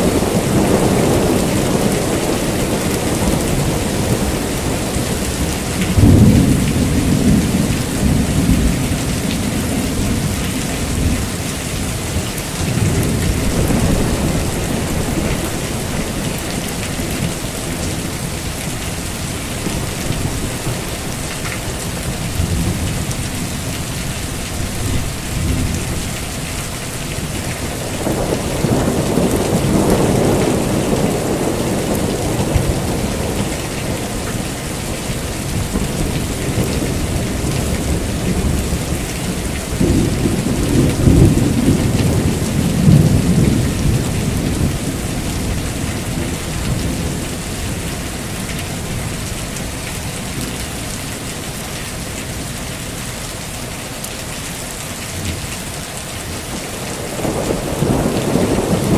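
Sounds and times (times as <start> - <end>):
rolling thunder: 0.0 - 49.1, 56.5 - 58.9
heavy rain falling: 0.0 - 58.9.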